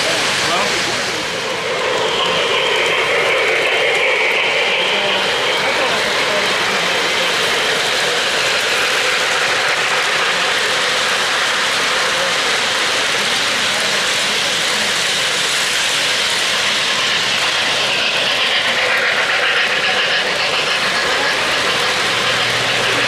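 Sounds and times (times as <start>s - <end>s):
model train wheels whirring on rail: 0.0s - 23.0s.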